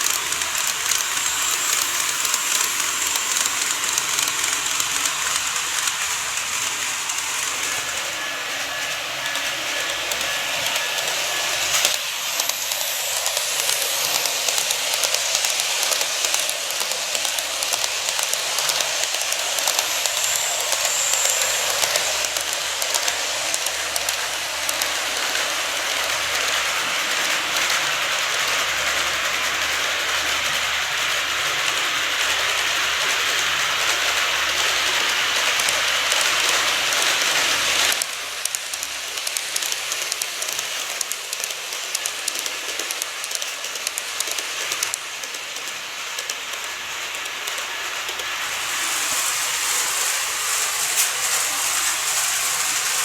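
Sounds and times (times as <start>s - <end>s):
model train rattling on track: 0.0s - 53.0s
wheels clicking on rail joints: 0.0s - 53.0s.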